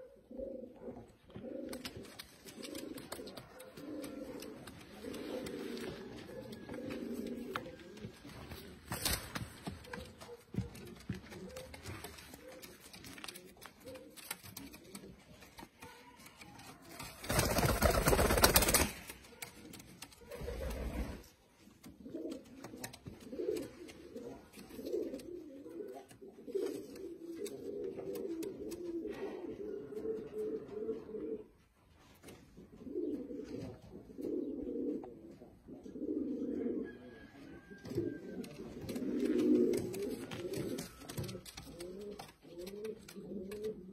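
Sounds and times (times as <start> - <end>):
pigeons cooing: 0.0 - 16.4, 17.2 - 31.6, 32.2 - 43.9.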